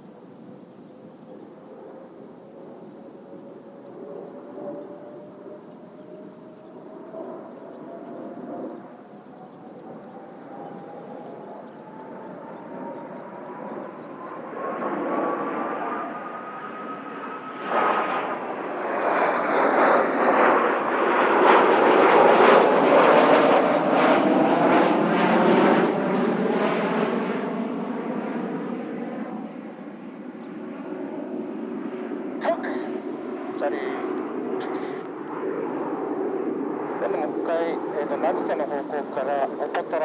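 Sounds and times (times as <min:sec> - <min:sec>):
jets flying past: 0:01.6 - 0:40.0.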